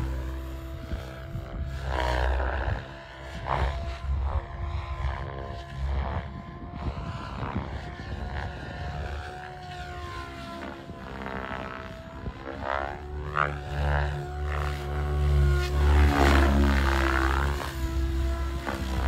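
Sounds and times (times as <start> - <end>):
helicopter rotor blades whooshing: 0.0 - 19.0
motor whine: 0.0 - 19.0.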